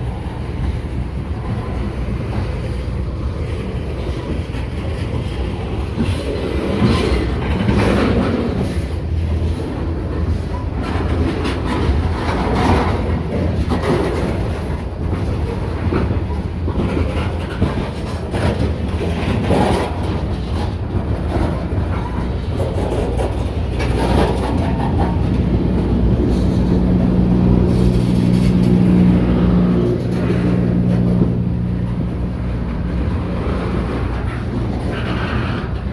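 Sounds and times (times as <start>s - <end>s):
freight train rumbling on rails: 0.0s - 35.9s
train wheels knocking: 3.6s - 35.9s.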